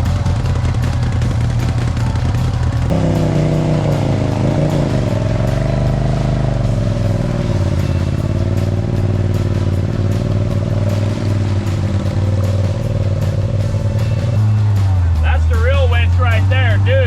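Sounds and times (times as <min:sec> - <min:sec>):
utility vehicle engine revving: 0:00.0 - 0:17.0.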